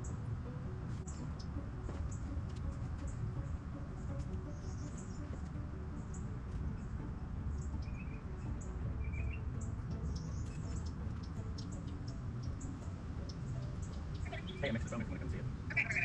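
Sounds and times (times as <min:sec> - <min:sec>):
bird chirping: 0:01.0 - 0:02.3, 0:03.0 - 0:16.0.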